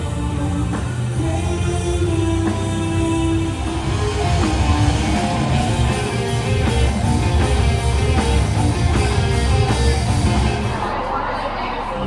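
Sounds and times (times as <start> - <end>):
bass and drum beat: 0.0 - 10.9
rock music with electric guitar: 0.0 - 11.0.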